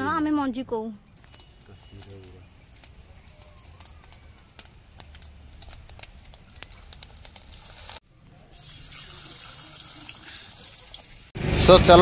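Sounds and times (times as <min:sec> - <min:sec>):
patty sizzling in hot oil: 0:01.1 - 0:11.4.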